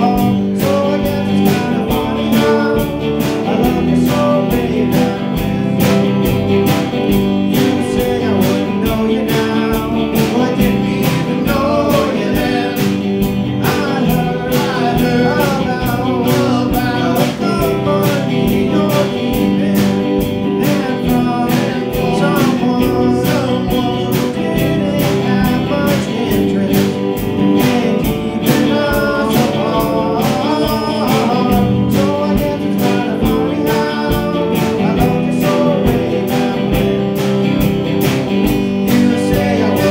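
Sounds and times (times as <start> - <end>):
bass guitar: 0.0 - 39.9
drum kit beat: 0.0 - 39.9
electric guitar: 0.0 - 39.9
man singing: 0.0 - 39.9.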